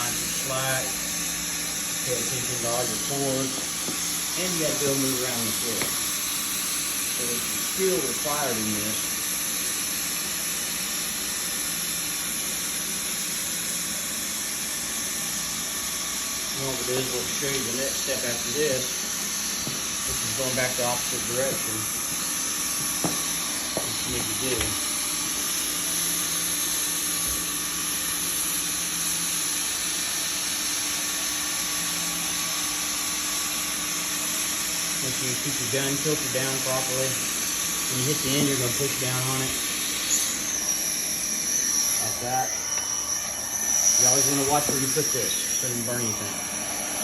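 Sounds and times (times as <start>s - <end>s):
hot-air welding gun hissing: 0.0s - 47.0s.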